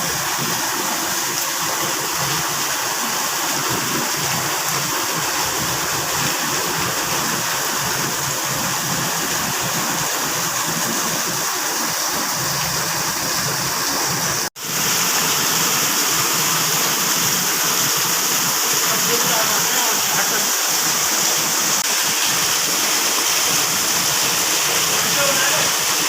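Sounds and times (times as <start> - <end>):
rainwater rushing: 0.0 - 26.0.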